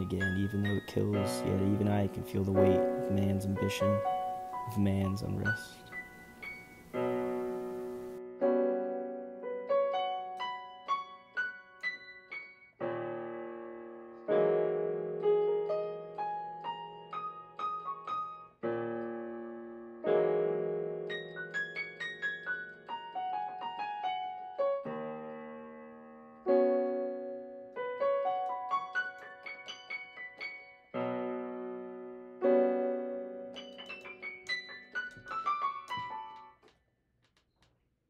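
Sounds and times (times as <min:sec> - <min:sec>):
slow piano chords and runs: 0:00.0 - 0:36.7.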